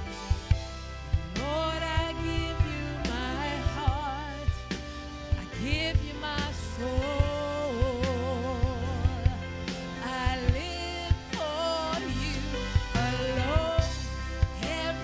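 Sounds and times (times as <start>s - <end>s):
drum kit beat: 0.0s - 15.0s
keyboard chords: 0.0s - 15.0s
person singing with vibrato: 1.0s - 15.0s.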